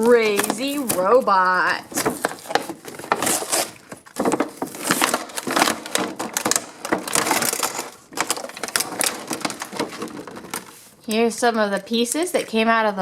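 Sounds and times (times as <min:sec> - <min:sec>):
plastic pieces clattering: 0:00.0 - 0:10.8
packaging crinkling and rustling: 0:00.0 - 0:12.6.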